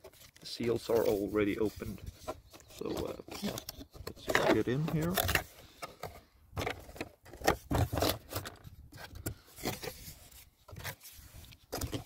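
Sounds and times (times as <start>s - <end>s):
packaging scraping and rubbing: 0.0s - 12.0s.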